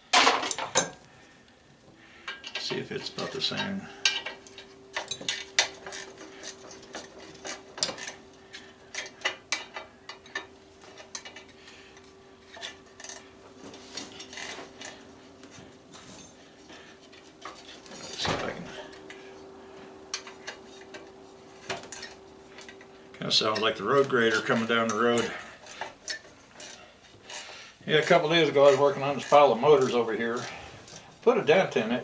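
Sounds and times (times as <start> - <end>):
faint hum: 0.0 - 32.0
scraping metal clatter: 2.1 - 31.9.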